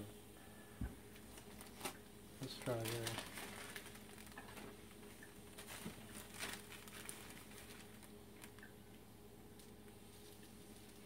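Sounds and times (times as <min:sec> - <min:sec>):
low room hum: 0:00.0 - 0:11.0
plastic bag rustling: 0:01.1 - 0:08.9, 0:09.5 - 0:11.0.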